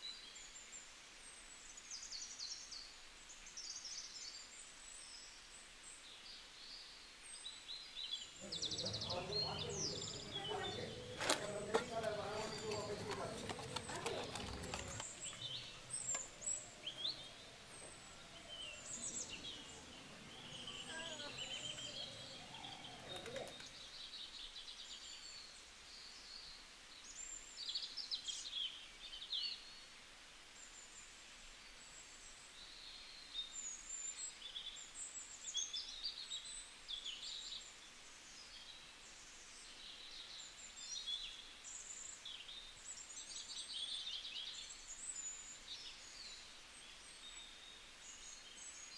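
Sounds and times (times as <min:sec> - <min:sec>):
small birds chirping: 0:00.0 - 0:30.0, 0:30.6 - 0:48.9
faint background hiss: 0:00.0 - 0:48.9.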